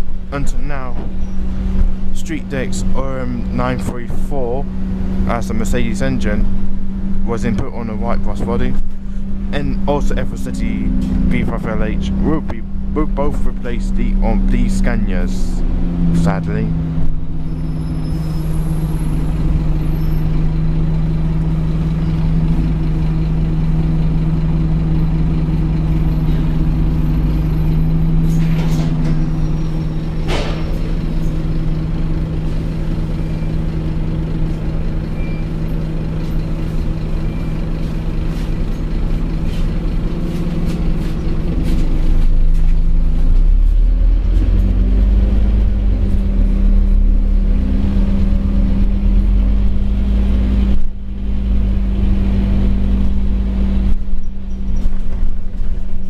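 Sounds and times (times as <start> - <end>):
bus diesel engine humming: 0.0 - 56.0.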